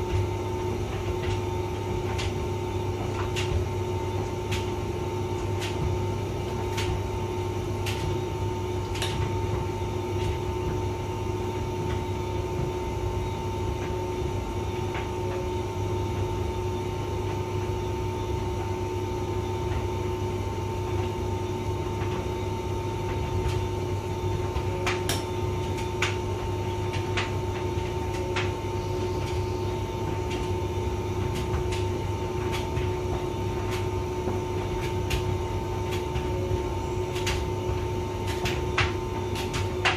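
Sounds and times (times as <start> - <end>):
tumble dryer running: 0.0 - 39.9.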